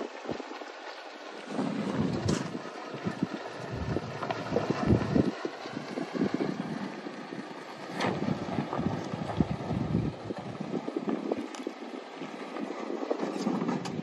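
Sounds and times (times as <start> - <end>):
pickup truck engine under light load: 0.0 - 14.0
wind buffeting microphone: 1.4 - 14.0.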